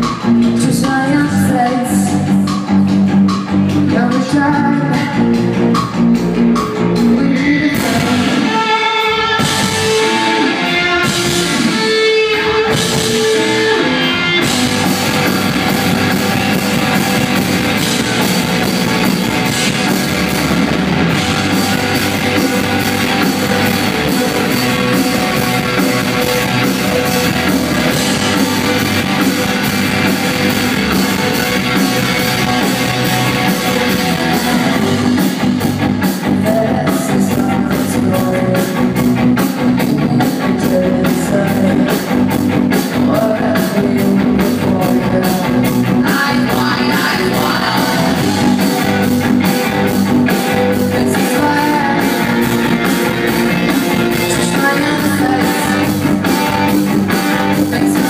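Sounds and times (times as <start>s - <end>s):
bass: 0.0s - 58.0s
drum kit beat: 0.0s - 58.0s
electric guitars: 0.0s - 58.0s.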